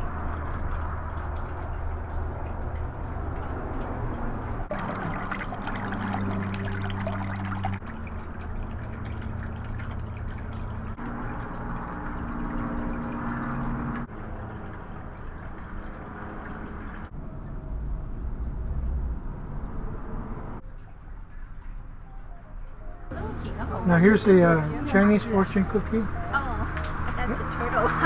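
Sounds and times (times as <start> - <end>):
trickling water: 0.0 - 19.0, 20.6 - 28.0.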